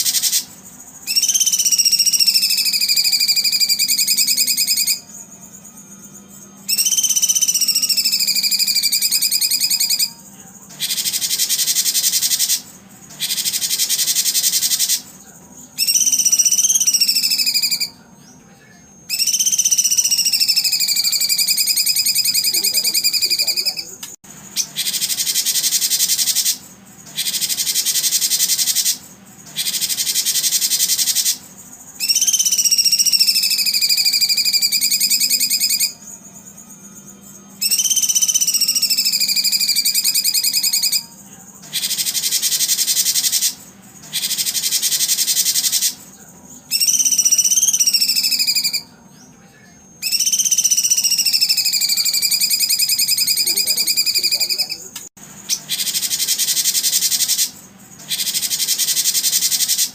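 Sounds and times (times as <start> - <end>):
whistled bird calls: 0.0 - 5.1, 6.6 - 10.2, 10.8 - 15.1, 15.7 - 18.4, 19.1 - 36.7, 37.3 - 49.4, 50.0 - 59.9
high-pitched insect buzzing: 0.0 - 15.2, 15.8 - 18.1, 18.9 - 46.1, 46.7 - 48.9, 49.7 - 59.9.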